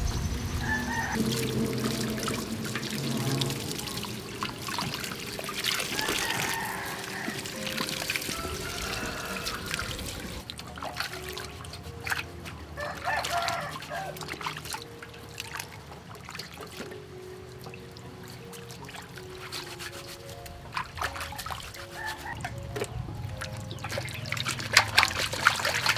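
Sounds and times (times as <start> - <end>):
water trickling and sloshing: 0.0 - 25.9
water pouring into metal basin: 0.6 - 17.0, 17.8 - 25.9.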